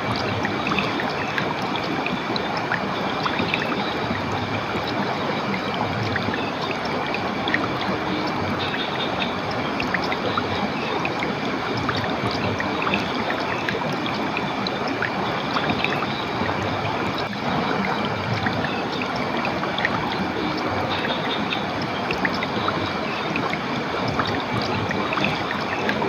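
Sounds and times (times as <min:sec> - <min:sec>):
running water splashing: 0:00.0 - 0:26.0
water drips: 0:00.0 - 0:26.0.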